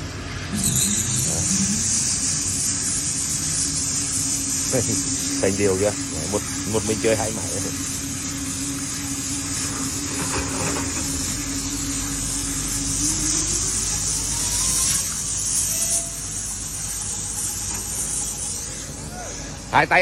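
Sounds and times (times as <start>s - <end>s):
motor hum: 0.0s - 19.7s
wire saw hissing: 0.4s - 20.0s.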